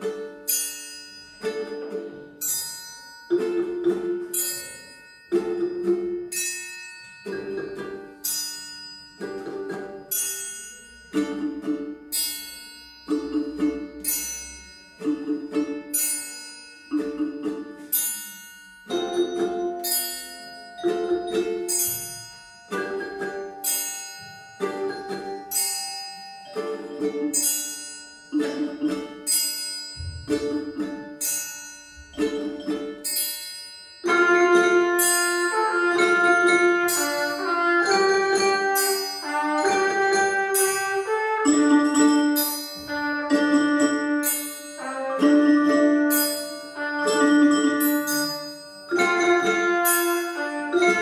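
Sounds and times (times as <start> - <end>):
bright ringing struck notes: 0.0 - 51.0
slow instrumental music: 0.0 - 51.0.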